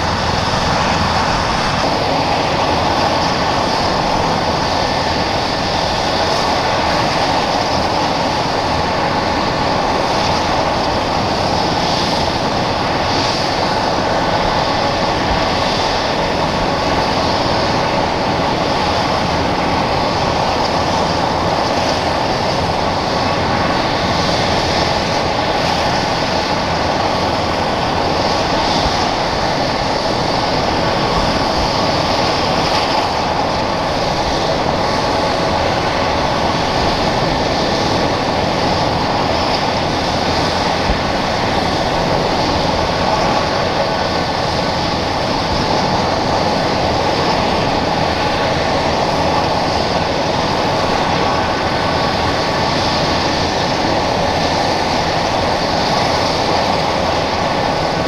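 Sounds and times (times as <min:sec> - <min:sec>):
helicopter rotor rushing: 0:00.0 - 0:58.0
helicopter turbine whine: 0:00.0 - 0:58.0.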